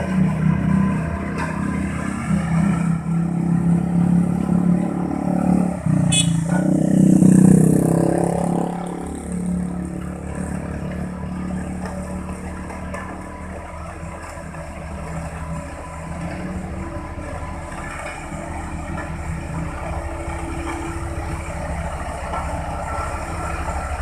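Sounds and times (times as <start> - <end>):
road compactor engine running: 0.0 - 24.0.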